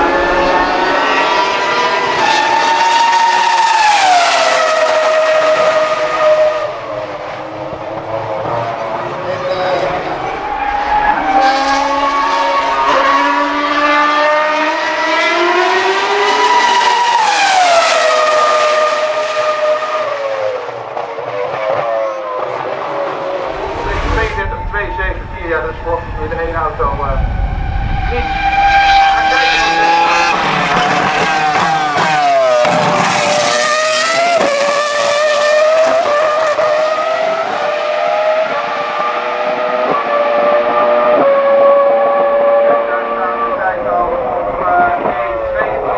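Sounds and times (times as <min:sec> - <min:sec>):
racing car engine at high revs: 0:00.0 - 0:45.9.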